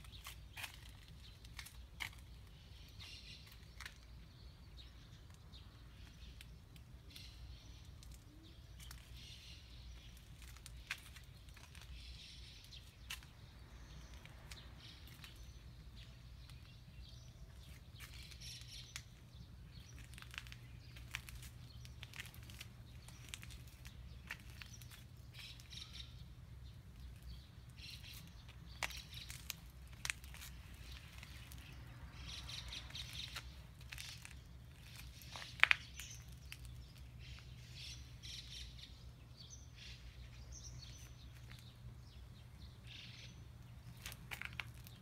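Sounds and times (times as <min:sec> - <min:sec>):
distant birds chirping: 0:00.0 - 0:45.0.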